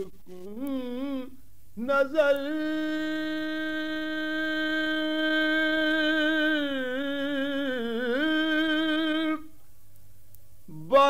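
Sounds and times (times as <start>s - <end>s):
man singing a long note: 0.0s - 9.5s, 10.7s - 11.0s.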